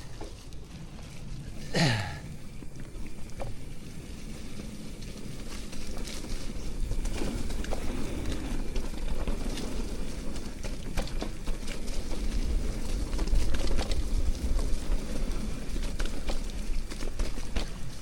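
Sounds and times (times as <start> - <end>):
bike clicks and rattles: 0.0 - 18.0
wind and ground rumble: 0.0 - 18.0.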